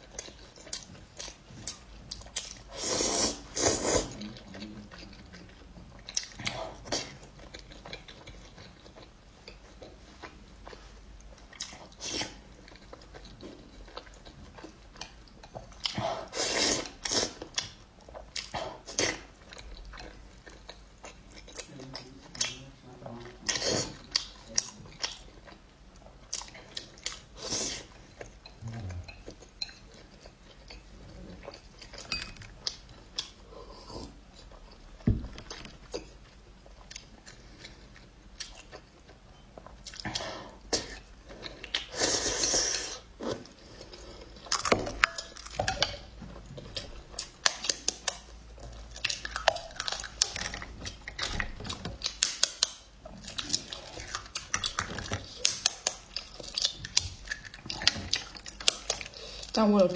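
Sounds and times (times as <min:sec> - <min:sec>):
person chewing food: 0:00.0 - 0:59.6.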